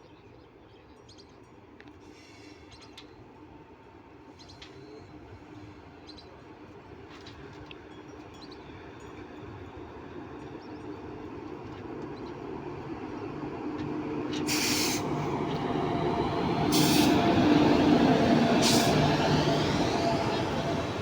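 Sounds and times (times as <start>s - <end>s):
train approaching with low hum: 0.2s - 21.0s.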